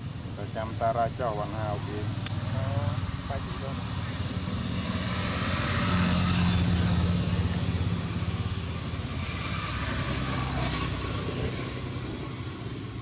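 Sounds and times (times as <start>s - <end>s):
engine running low hum: 0.0s - 13.0s.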